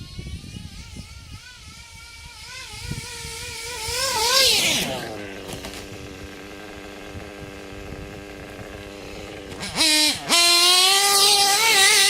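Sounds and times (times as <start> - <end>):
model car engine revving: 0.0 - 12.0.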